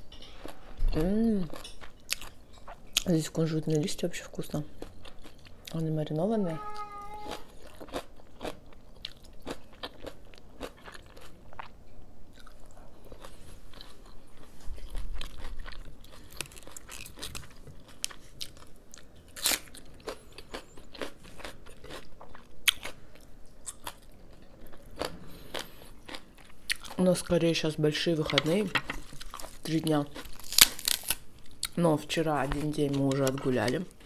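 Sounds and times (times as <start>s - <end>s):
person chewing and crunching food: 0.2s - 3.9s, 4.6s - 5.9s, 6.6s - 27.4s, 28.1s - 31.8s.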